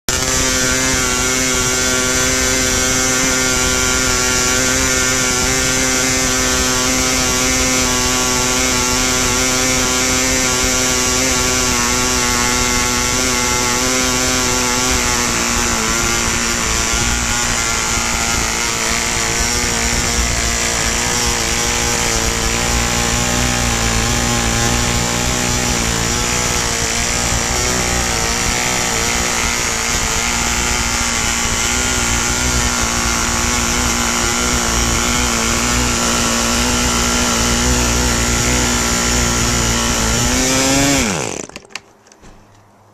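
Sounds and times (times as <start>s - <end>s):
model engine buzzing: 0.1s - 42.2s.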